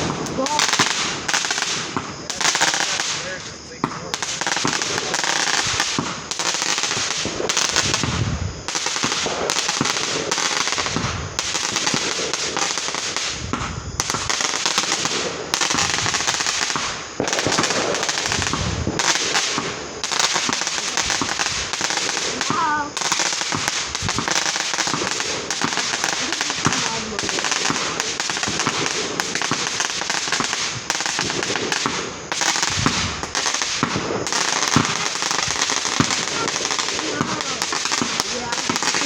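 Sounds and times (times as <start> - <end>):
fireworks booms: 0.0 - 39.0
fireworks crackling and popping: 0.0 - 39.0.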